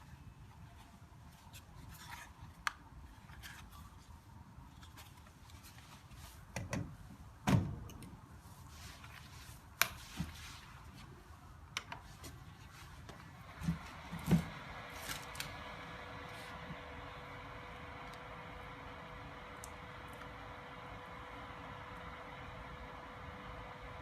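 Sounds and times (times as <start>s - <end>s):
electric heater humming: 4.3s - 24.0s.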